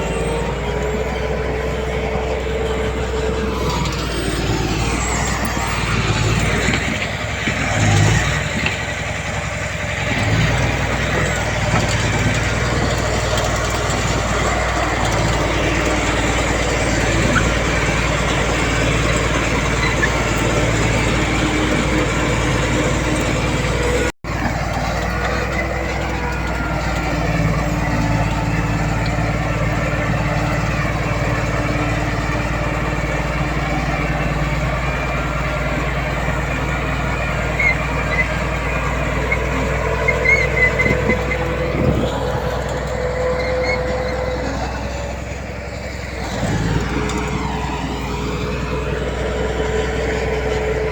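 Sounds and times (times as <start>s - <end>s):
heavy machinery diesel engines: 0.0s - 50.9s.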